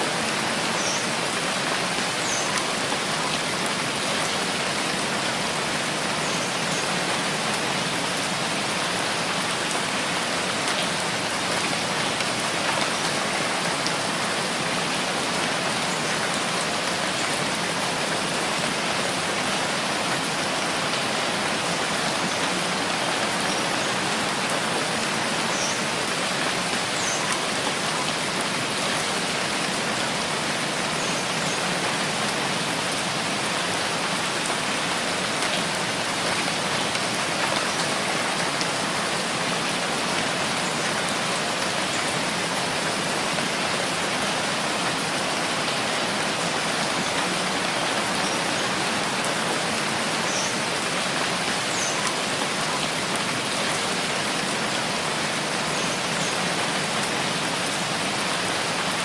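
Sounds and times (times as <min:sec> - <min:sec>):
rain pattering: 0:00.1 - 0:59.0.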